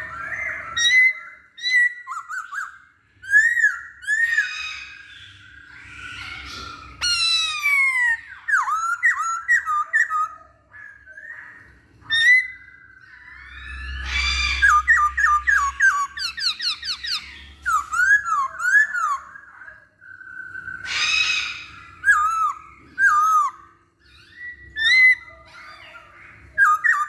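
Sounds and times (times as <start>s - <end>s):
bird singing whistled song: 0.0s - 27.0s.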